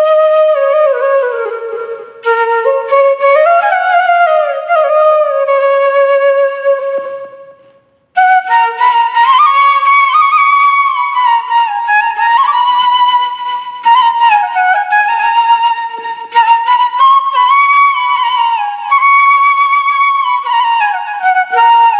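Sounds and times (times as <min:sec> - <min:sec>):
flute melody with sliding notes: 0:00.0 - 0:21.9.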